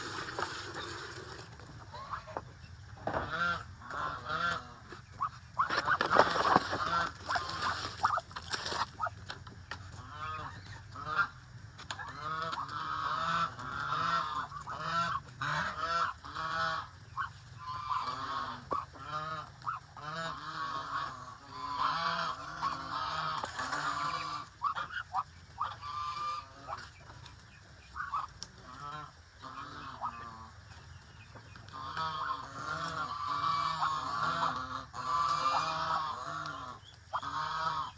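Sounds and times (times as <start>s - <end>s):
ducks and goose calling: 0.0s - 37.9s.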